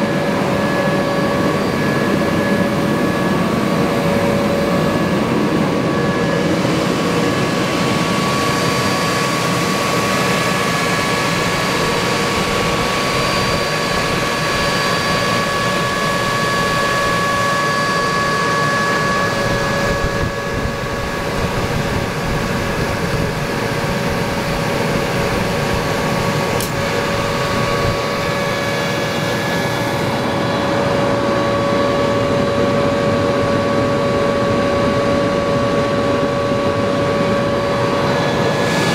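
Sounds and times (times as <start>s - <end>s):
air compressor running: 0.0s - 17.2s, 17.8s - 34.2s, 37.9s - 38.9s.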